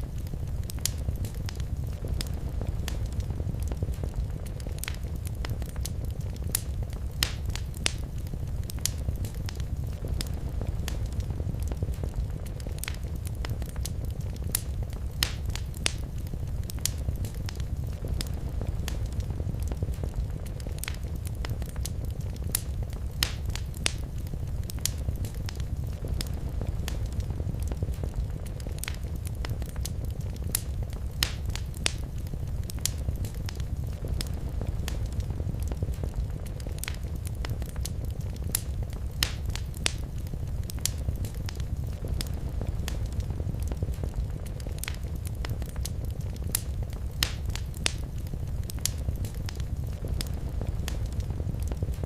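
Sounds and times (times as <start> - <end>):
fire crackles and pops: 0.0 - 52.0
low fire rumble: 0.0 - 52.0.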